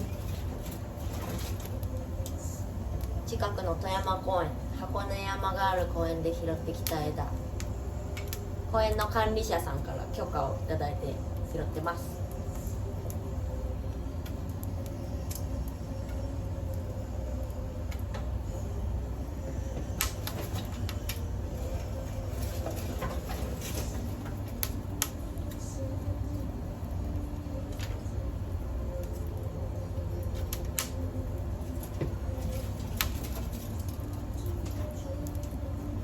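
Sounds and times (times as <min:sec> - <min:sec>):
twigs crackling and popping in fire: 0:00.0 - 0:36.0.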